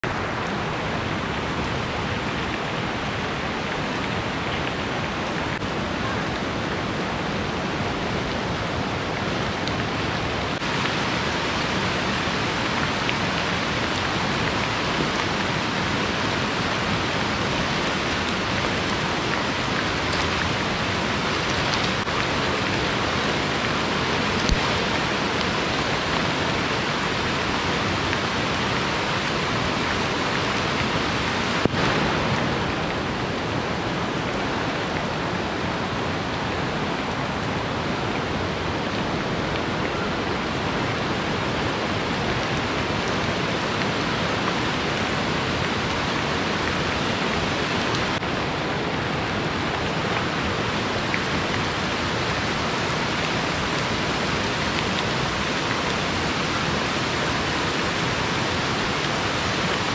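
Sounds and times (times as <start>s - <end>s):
rushing river: 0.0s - 59.9s
steady rain: 0.0s - 59.9s.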